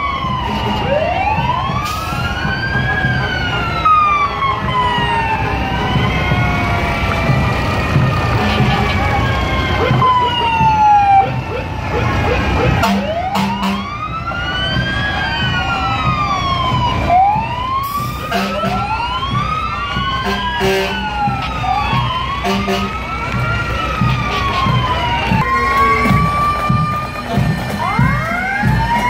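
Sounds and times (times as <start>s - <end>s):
sirens wailing: 0.0s - 29.0s.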